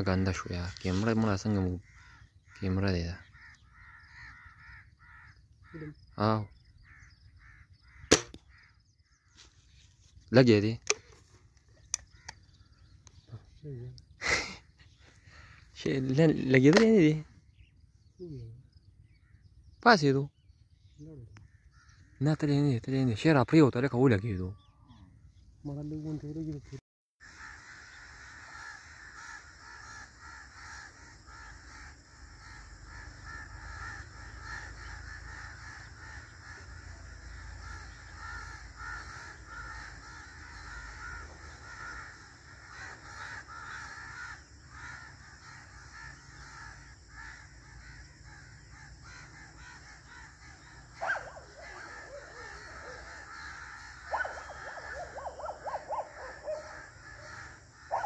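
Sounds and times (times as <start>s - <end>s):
birds chirping: 0.0s - 58.0s
harsh bird calls: 0.0s - 58.0s.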